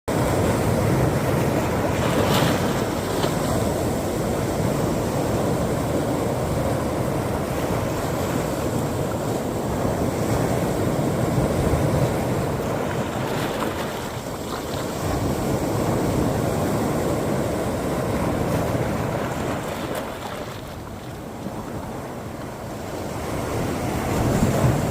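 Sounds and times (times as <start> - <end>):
sea waves breaking on shore: 0.1 - 24.9
wind buffeting microphone: 0.1 - 24.9.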